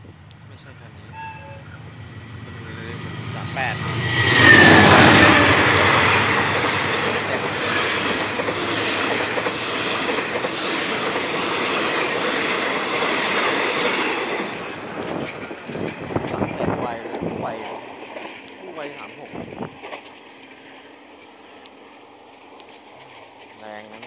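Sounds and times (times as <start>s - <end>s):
train passing at speed: 0.0s - 24.0s
wheels clattering on rail: 1.1s - 20.8s, 22.3s - 24.0s.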